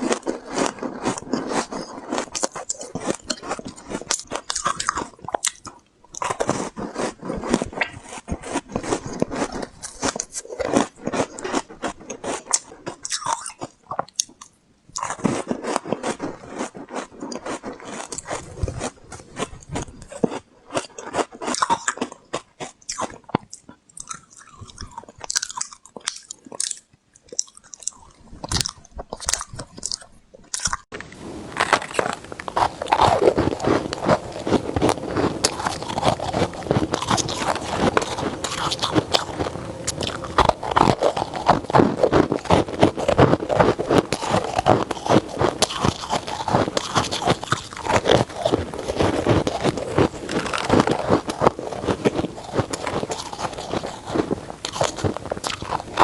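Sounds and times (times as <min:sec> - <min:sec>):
crunching ice: 0:00.0 - 0:14.4, 0:15.0 - 0:56.0.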